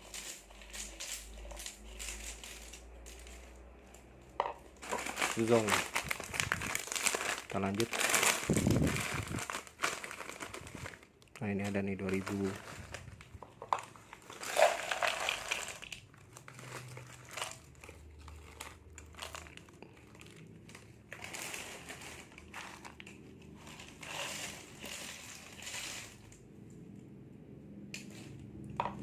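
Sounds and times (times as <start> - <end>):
plastic snack packets crinkling: 0.0 - 26.6.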